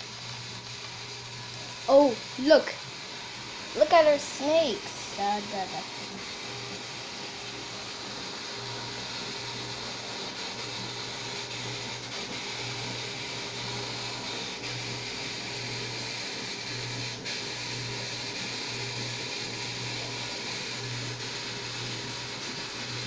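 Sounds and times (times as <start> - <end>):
hiss: 0.0 - 23.0
small motor whirring hum: 0.0 - 23.0.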